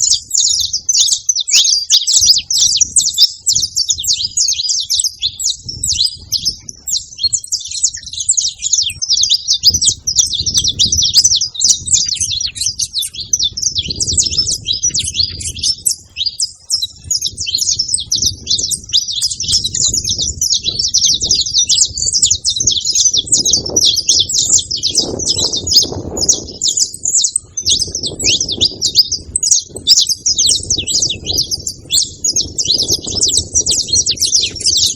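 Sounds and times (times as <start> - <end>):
finches singing: 0.0 - 34.9.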